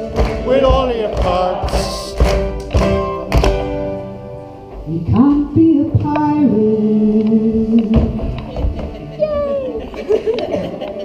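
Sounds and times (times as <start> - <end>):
acoustic band playing: 0.0 - 11.0.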